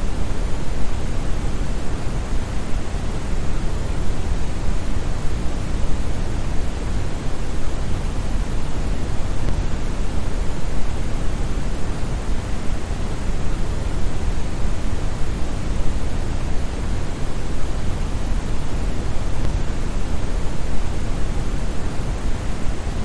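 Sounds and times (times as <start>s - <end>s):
brown noise: 0.0s - 23.0s.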